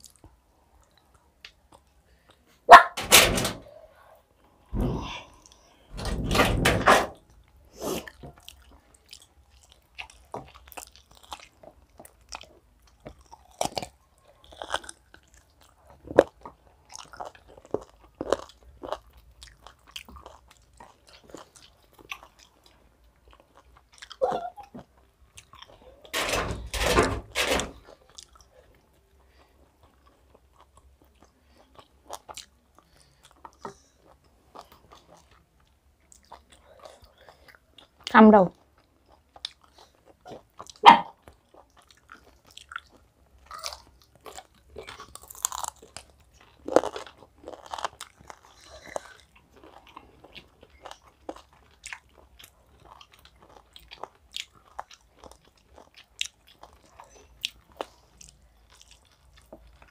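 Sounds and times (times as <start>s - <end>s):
chewing and biting: 8.0s - 26.2s, 27.8s - 59.9s.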